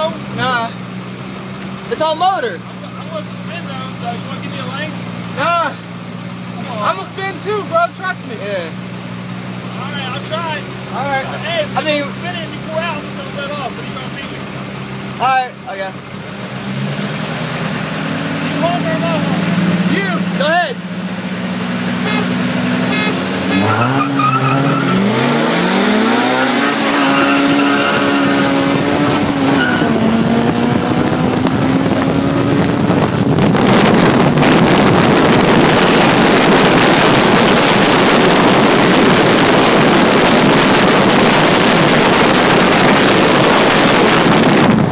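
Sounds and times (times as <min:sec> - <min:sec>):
car engine accelerating hard: 0:00.0 - 0:44.9
wind and road noise: 0:00.0 - 0:44.9.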